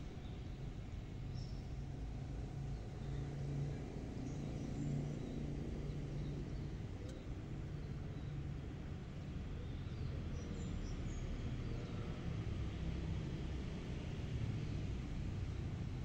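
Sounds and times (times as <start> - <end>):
low hum of distant traffic: 0.0 - 16.0.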